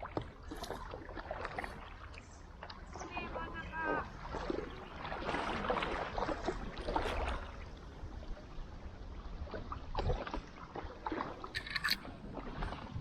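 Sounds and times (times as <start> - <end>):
water sloshing: 0.0 - 8.3, 9.1 - 13.0
paddle strokes splashing: 0.0 - 13.0.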